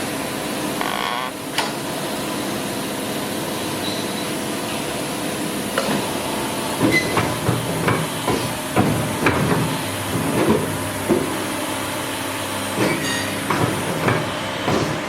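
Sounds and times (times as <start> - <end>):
pipe bending machine humming: 0.0 - 3.0, 5.8 - 15.0.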